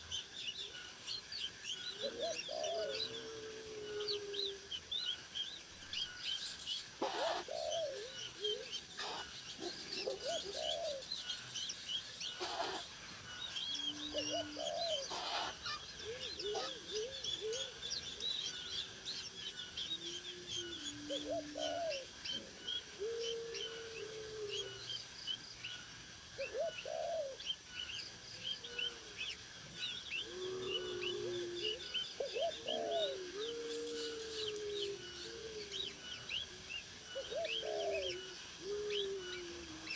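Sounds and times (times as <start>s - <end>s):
birds chirping: 0.0s - 39.9s
birds cooing: 0.0s - 39.9s.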